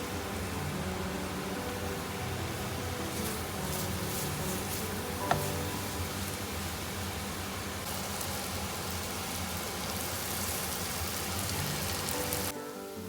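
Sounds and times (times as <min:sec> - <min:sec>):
quiet background music: 0:00.0 - 0:08.0, 0:08.8 - 0:13.0
food sizzling in a hot pan: 0:00.0 - 0:13.0.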